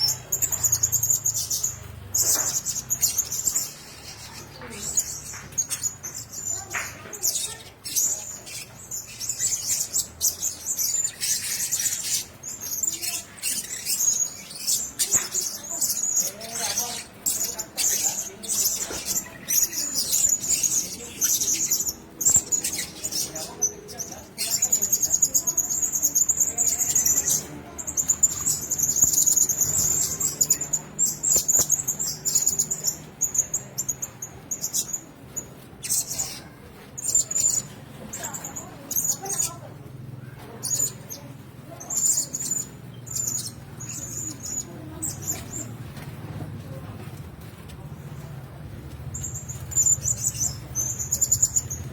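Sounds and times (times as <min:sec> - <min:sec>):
parrots chirping: 0:00.0 - 0:45.8, 0:48.0 - 0:51.9.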